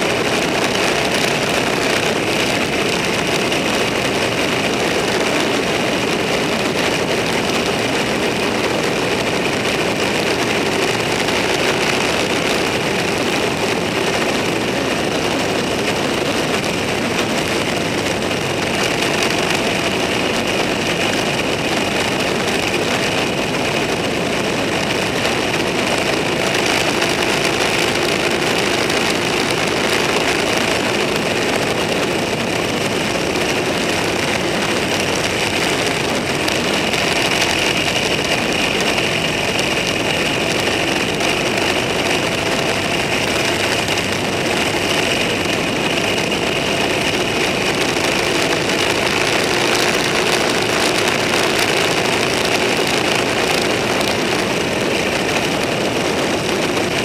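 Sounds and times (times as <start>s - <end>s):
vehicle engine running: 0.0s - 57.0s
wind and road noise: 0.0s - 57.0s.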